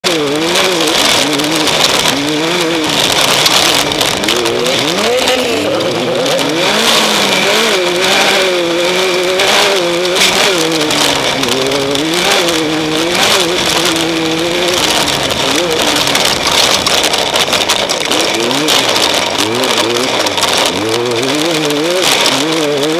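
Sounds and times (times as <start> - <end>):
race vehicle engine revving: 0.0 - 22.9
rough road noise: 0.0 - 22.9.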